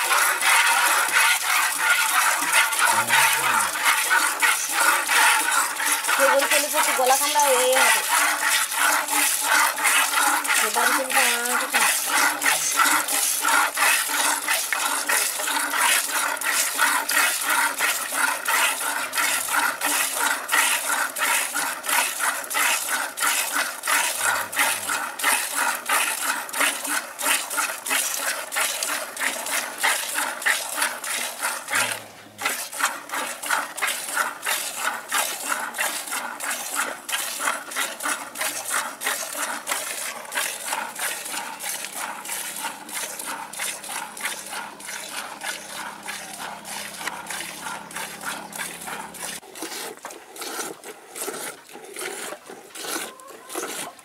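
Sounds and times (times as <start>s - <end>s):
milk squirting into a pail: 0.0s - 54.0s.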